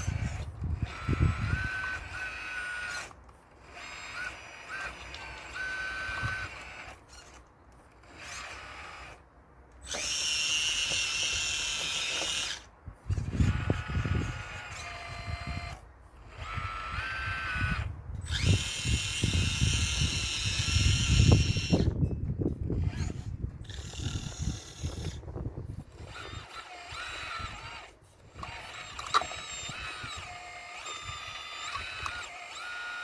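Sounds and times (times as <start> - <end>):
small electric motor whining: 0.0 - 33.0.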